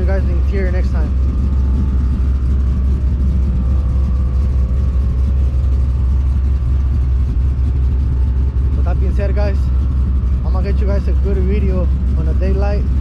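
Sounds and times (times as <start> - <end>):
faint steady hum: 0.0 - 13.0
vehicle engine rumbling: 0.0 - 13.0.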